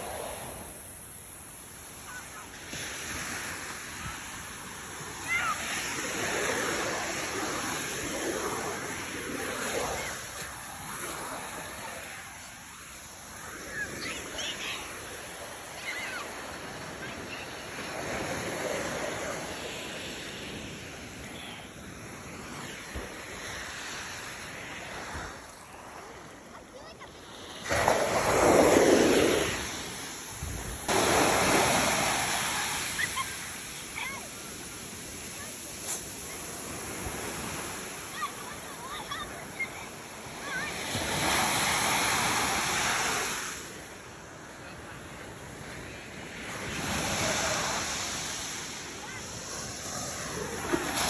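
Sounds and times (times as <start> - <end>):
waves breaking on beach: 0.0 - 51.0.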